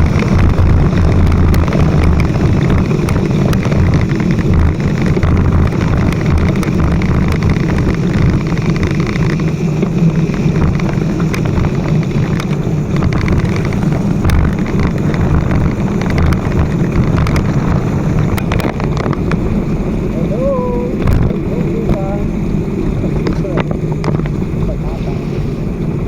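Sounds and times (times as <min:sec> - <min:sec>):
motorcycle engine rumble: 0:00.0 - 0:26.0
wind rushing over microphone: 0:00.0 - 0:26.0.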